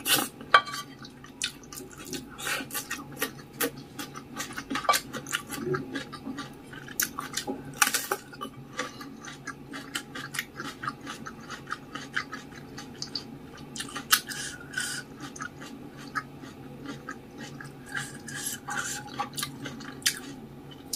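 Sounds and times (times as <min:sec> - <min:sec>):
faint low hum: 0:00.0 - 0:20.9
chewing noodles: 0:01.0 - 0:20.9.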